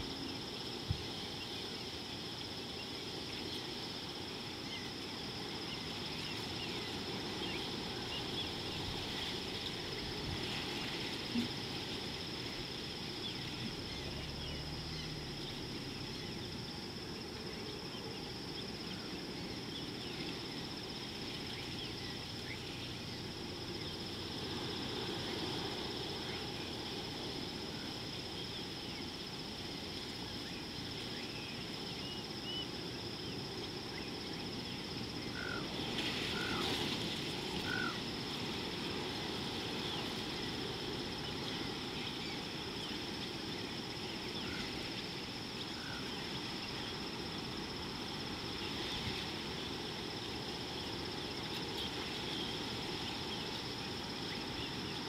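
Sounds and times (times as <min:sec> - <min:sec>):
constant low hiss: 0:00.0 - 0:55.0
high-pitched insect drone: 0:00.0 - 0:55.0.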